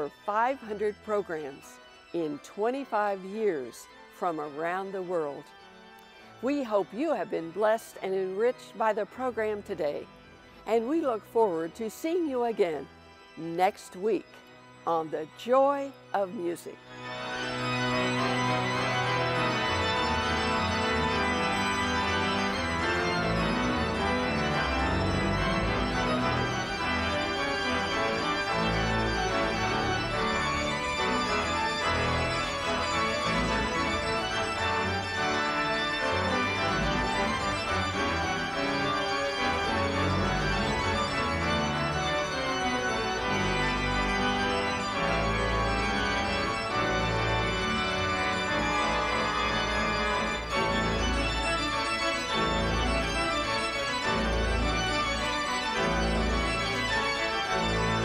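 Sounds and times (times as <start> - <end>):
pipe organ music: 0.0 - 58.0.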